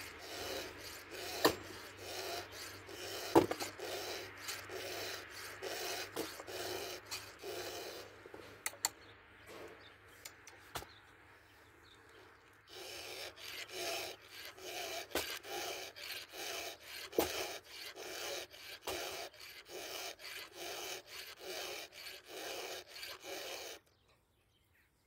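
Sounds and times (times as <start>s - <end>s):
file scraping saw chain: 0.0s - 8.9s, 12.6s - 23.9s.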